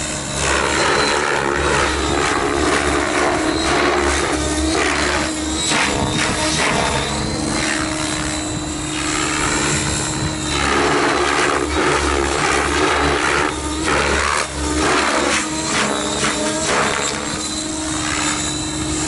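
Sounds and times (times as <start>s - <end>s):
model helicopter rotor and motor: 0.0s - 19.0s.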